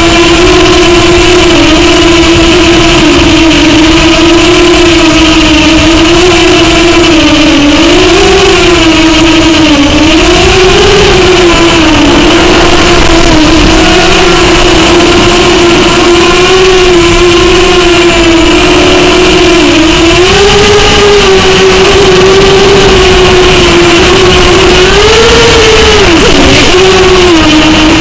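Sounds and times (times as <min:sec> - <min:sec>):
quadcopter motors buzzing: 0:00.0 - 0:28.0.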